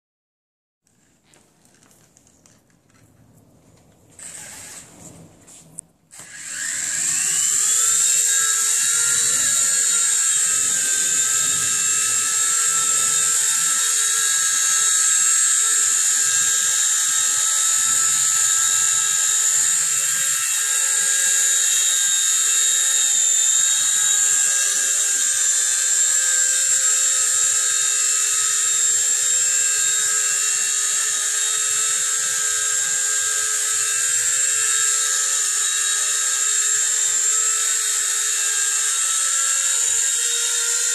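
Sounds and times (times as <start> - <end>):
rc helicopter rotor whine: 4.2 - 4.9, 6.1 - 40.9.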